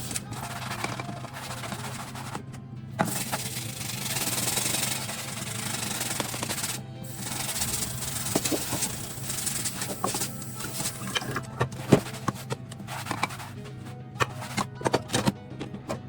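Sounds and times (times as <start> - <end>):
sponge scrubbing: 0.0 - 15.3
background music: 0.0 - 16.0.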